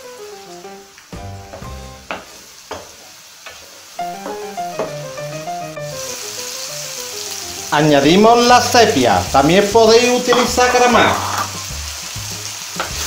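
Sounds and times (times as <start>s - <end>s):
background music: 0.0s - 2.1s, 4.0s - 12.9s
vegetables sizzling in oil: 0.0s - 13.0s.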